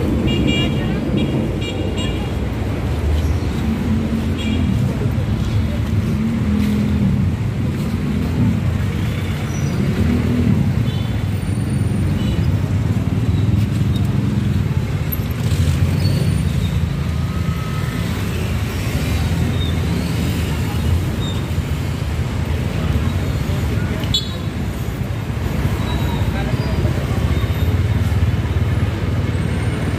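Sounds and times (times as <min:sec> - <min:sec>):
low traffic rumble: 0:00.0 - 0:29.9
motorcycles passing: 0:00.0 - 0:29.9.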